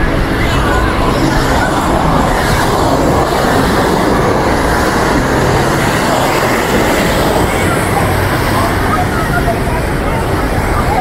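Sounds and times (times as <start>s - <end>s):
faint crowd chatter: 0.0s - 11.0s
surf washing in: 0.0s - 11.0s
wind on microphone: 0.0s - 11.0s.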